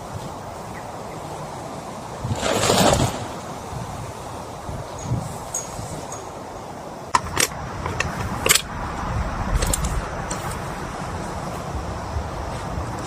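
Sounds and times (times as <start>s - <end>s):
steady rain: 0.0s - 5.5s, 6.2s - 13.0s.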